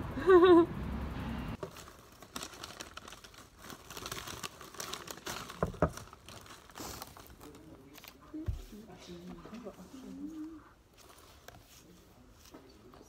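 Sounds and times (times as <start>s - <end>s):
paper rustling and crinkling: 1.6s - 13.0s.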